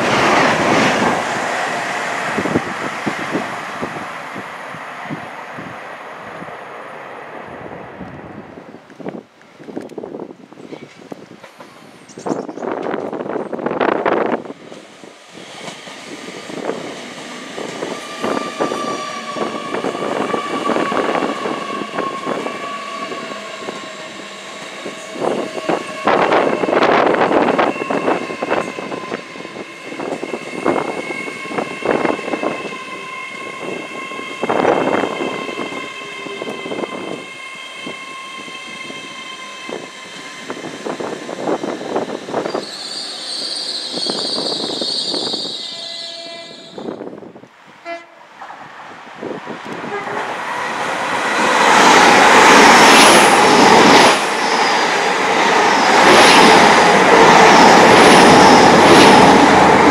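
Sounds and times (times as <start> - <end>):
steady train whine: 0.0 - 59.9
train passing at speed: 0.0 - 59.9.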